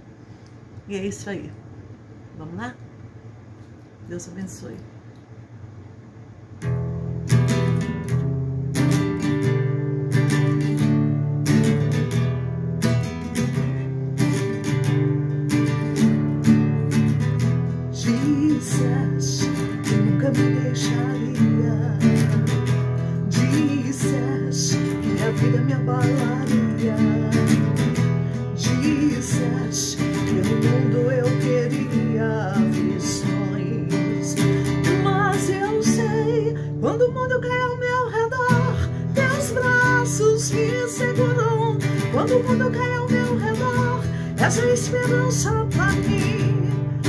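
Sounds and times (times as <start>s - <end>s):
acoustic guitar strumming chords: 6.6s - 47.0s.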